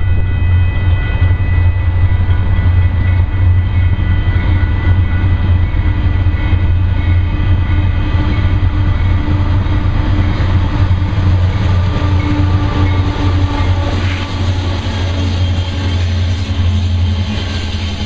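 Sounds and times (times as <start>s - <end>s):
diesel locomotives passing: 0.0s - 18.0s.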